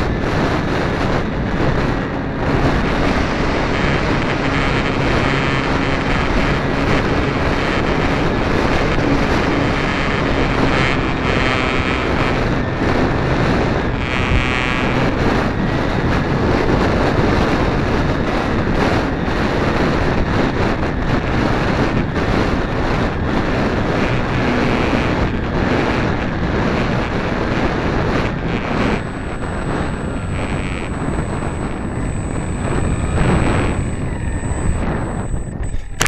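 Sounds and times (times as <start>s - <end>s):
thin high whine: 0.0s - 36.0s
wind rushing over camera: 0.0s - 36.0s.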